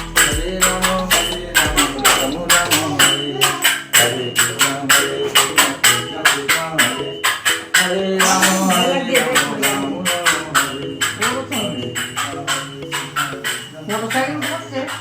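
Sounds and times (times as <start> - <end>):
background music melody: 0.0 - 15.0
jingling percussion beat: 0.0 - 15.0.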